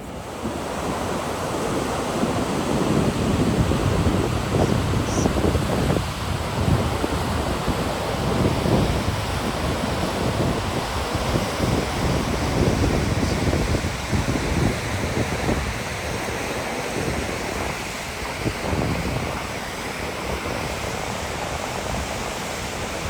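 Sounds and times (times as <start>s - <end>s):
waterfall roaring: 0.0s - 23.0s
wind buffeting microphone: 0.0s - 23.0s.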